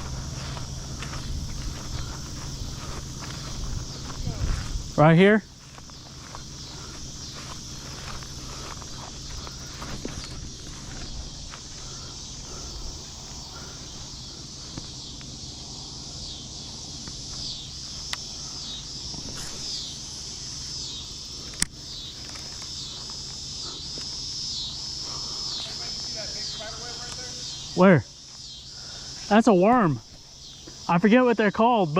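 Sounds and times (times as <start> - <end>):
insects pulsing chorus: 0.0 - 31.9.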